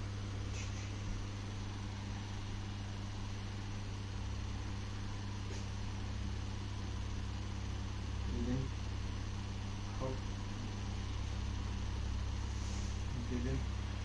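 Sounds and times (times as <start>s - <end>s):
low equipment hum: 0.0s - 14.0s.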